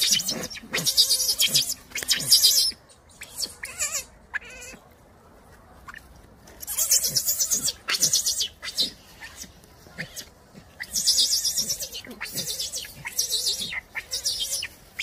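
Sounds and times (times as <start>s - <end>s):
monkey screaming: 0.0s - 4.8s, 6.6s - 15.0s.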